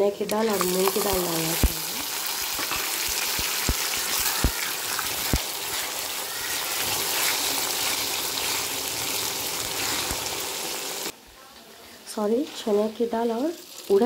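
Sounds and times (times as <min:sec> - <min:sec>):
nuts sizzling in hot oil: 0:00.2 - 0:11.2, 0:12.2 - 0:14.0.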